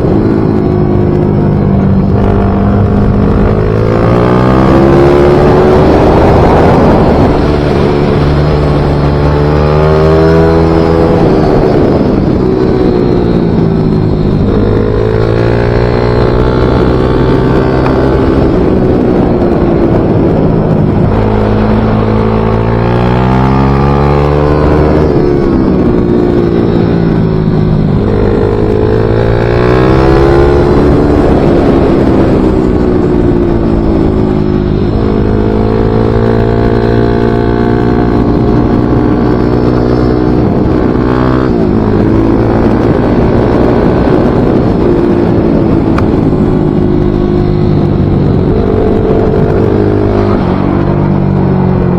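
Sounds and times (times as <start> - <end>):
racing motorcycle engine accelerating: 0.0 - 51.9.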